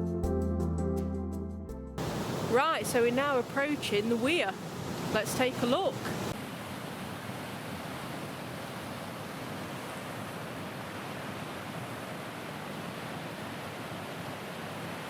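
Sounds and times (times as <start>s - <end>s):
water rushing over a weir: 2.0s - 15.0s.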